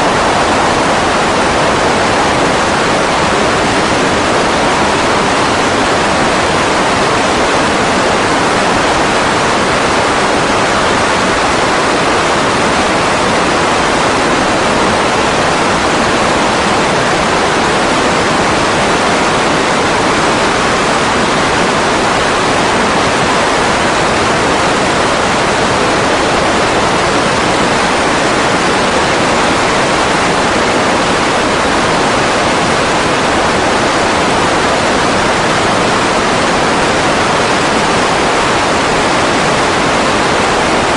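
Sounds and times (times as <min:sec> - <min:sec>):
rushing wind: 0:00.0 - 0:40.9
seaplane engine and propeller roar: 0:00.0 - 0:40.9.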